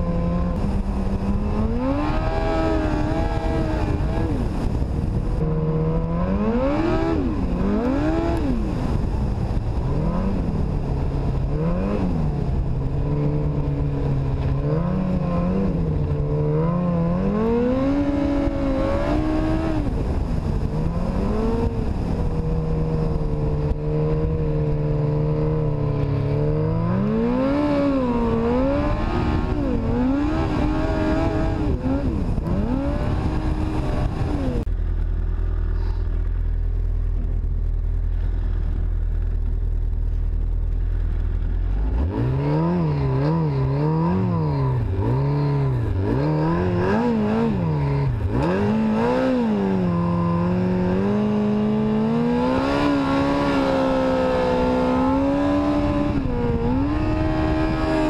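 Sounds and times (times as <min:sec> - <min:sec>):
snowmobile engine revving: 0:00.0 - 0:34.7, 0:41.6 - 0:58.0.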